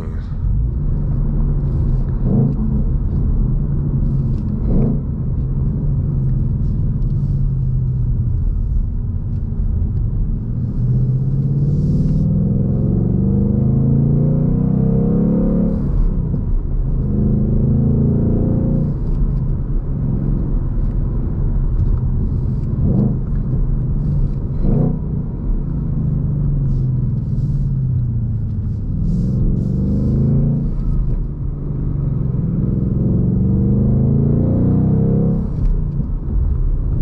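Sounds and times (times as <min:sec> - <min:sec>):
car engine revving through gears: 0:00.0 - 0:08.7, 0:09.3 - 0:37.0.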